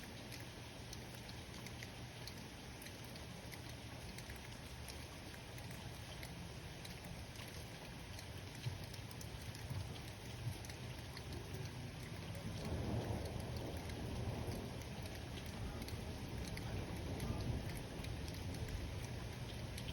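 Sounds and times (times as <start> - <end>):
raindrops ticking: 0.0 - 19.9
steady rain falling: 0.0 - 19.9.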